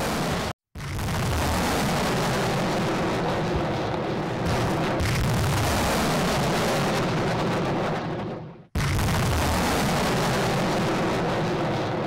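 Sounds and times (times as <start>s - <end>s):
roar of rocket launches: 0.0s - 12.0s.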